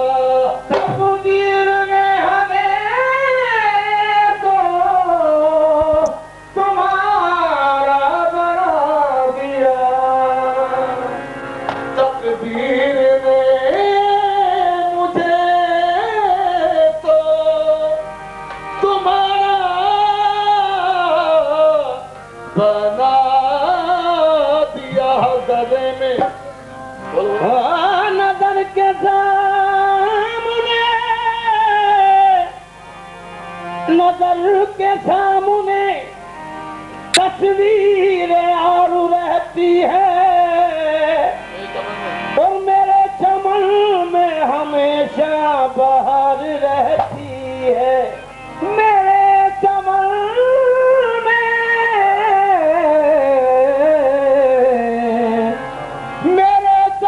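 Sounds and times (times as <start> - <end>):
man singing: 0.0 - 32.7, 33.8 - 36.2, 37.1 - 41.6, 42.3 - 57.0
harmonium: 0.0 - 57.0.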